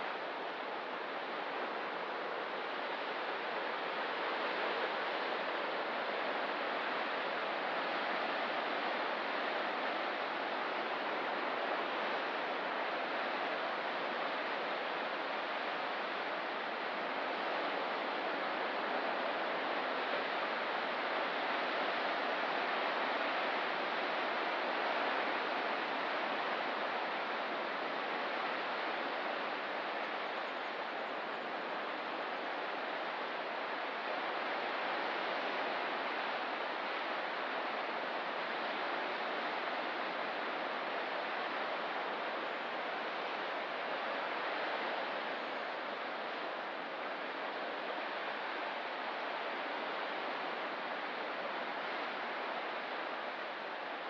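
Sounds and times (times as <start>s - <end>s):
ocean surf: 0.0s - 54.0s.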